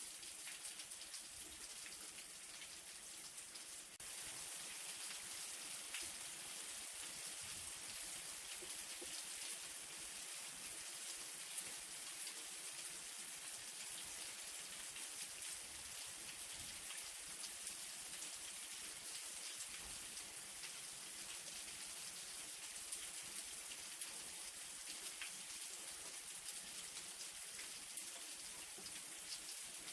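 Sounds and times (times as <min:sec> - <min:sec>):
light rain falling: 0:00.0 - 0:29.9
raindrops ticking on a surface: 0:00.1 - 0:29.9.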